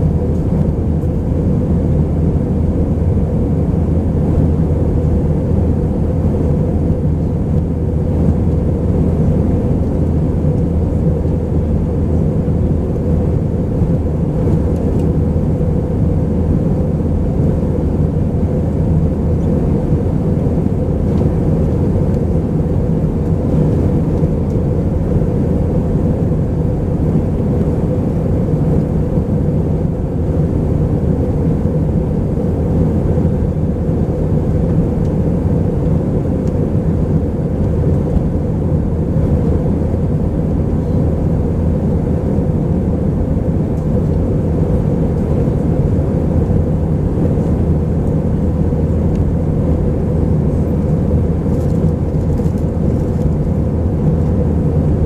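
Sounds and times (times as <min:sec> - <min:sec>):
airflow noise: 0:00.0 - 0:55.0
jet engines humming: 0:00.0 - 0:55.0.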